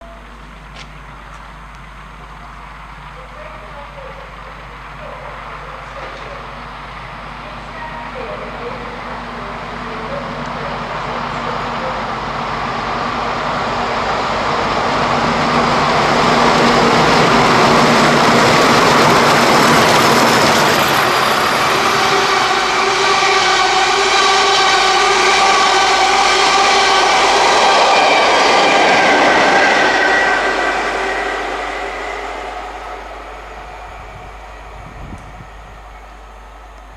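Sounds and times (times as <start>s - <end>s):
diesel locomotive engine: 0.0s - 36.9s
wheel-on-rail noise: 0.2s - 36.9s
steady whining tones: 0.9s - 36.9s.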